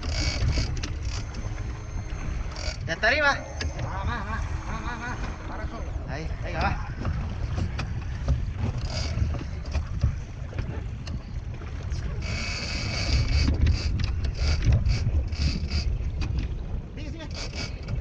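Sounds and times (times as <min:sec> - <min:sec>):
boat engine rumble: 0:00.0 - 0:18.0
wind buffeting microphone: 0:00.0 - 0:18.0.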